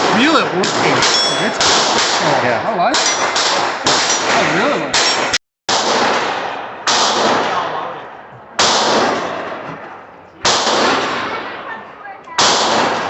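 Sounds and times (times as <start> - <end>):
gunshots: 0.0 - 11.7, 12.4 - 13.0.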